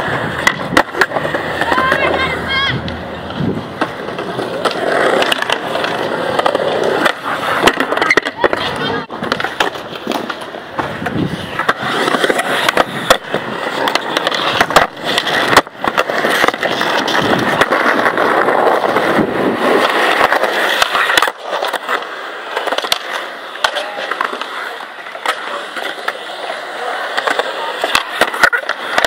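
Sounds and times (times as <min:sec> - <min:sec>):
skateboard clacking on ground: 0:00.0 - 0:29.0
skateboard wheels rolling on concrete: 0:00.0 - 0:29.0.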